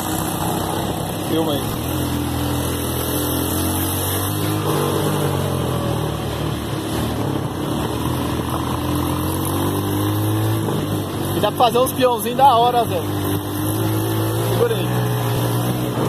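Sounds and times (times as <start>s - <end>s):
buggy engine running: 0.0s - 16.0s.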